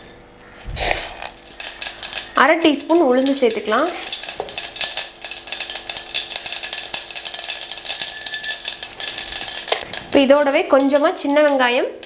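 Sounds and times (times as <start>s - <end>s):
seeds crackling in hot oil: 0.0s - 12.0s.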